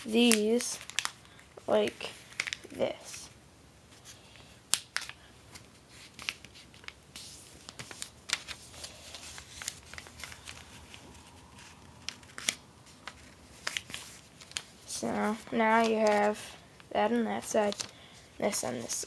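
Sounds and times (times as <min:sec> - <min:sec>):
paper rustling and creasing: 0:00.0 - 0:03.3, 0:03.9 - 0:16.6, 0:17.2 - 0:19.0.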